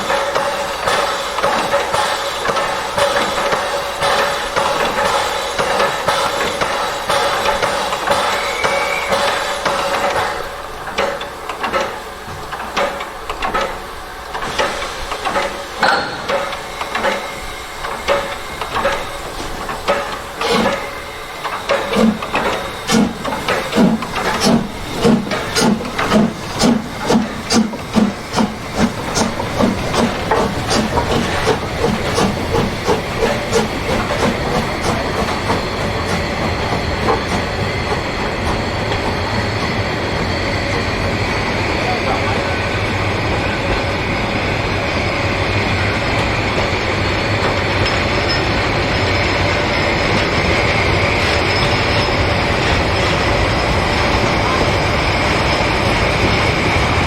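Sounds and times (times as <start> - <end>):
steam locomotive exhaust chuffs: 0.0 - 57.0.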